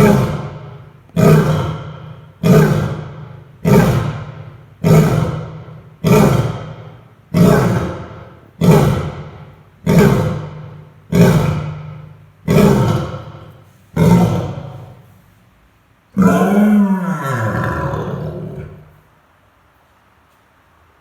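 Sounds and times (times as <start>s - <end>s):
lion grunting: 0.0s - 15.1s, 16.2s - 19.0s.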